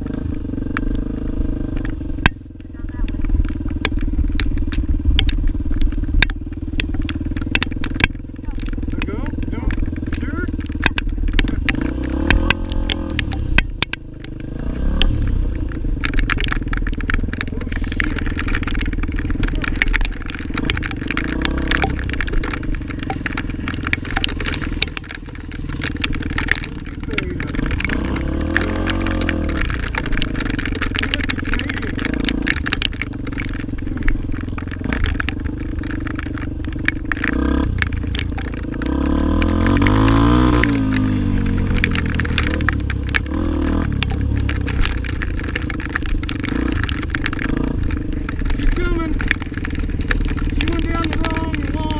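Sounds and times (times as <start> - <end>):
motorcycle engine running: 0.0 - 51.9
rattles and clatter over rough ground: 0.0 - 51.9.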